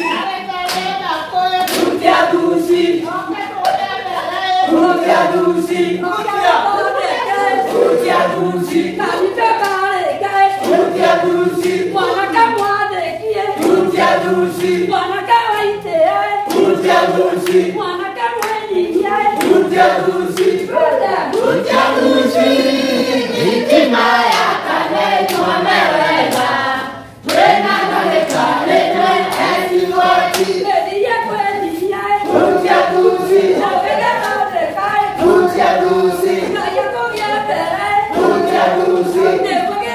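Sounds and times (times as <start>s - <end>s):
group of people singing: 0.0s - 39.9s
rhythmic hand clapping: 0.0s - 39.9s.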